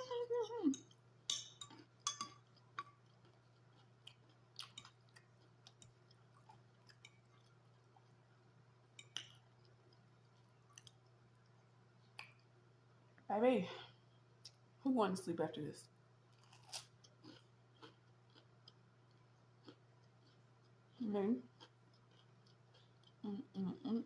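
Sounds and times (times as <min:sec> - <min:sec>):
person chewing food: 0:00.9 - 0:12.6, 0:16.3 - 0:23.9.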